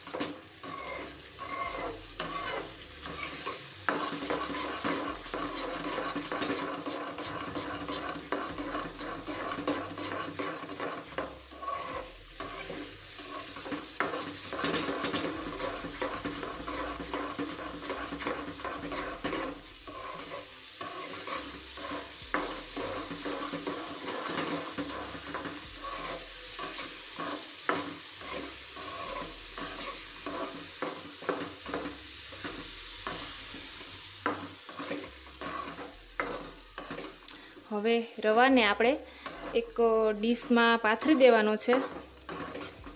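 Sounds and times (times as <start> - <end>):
metal spatula scraping pan: 0.0 - 42.9
mixture sizzling: 0.0 - 42.9.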